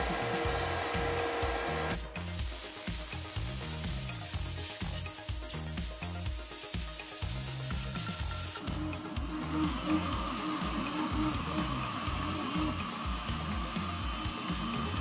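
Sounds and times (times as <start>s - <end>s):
background music with bass line: 0.0s - 15.0s
plasma cutter hiss: 2.1s - 15.0s.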